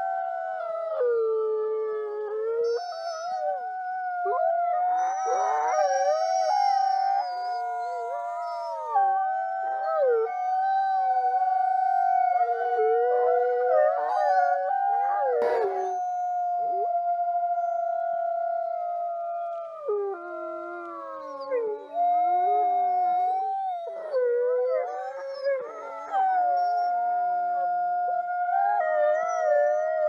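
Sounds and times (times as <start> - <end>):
wolves howling: 0.0 - 30.0.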